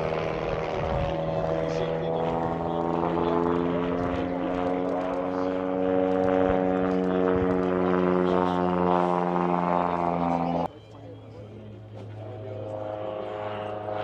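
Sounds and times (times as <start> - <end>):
propeller airplane engine drone: 0.0 - 14.0.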